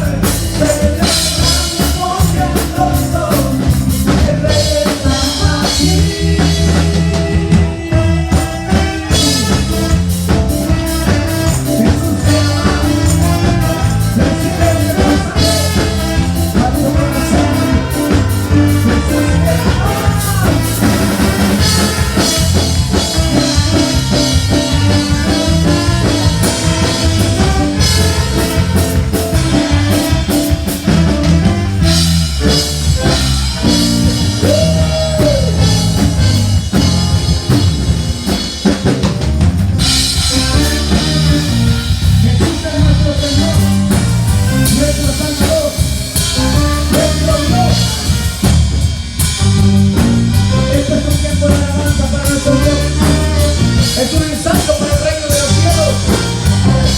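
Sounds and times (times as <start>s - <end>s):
bass: 0.0s - 56.9s
drum kit steady beat: 0.0s - 56.9s
live band playing worship music: 0.0s - 56.9s.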